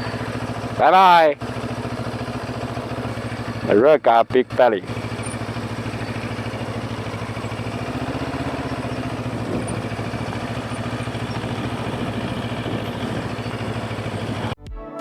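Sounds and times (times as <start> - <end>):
motorcycle engine running steadily: 0.0 - 14.6.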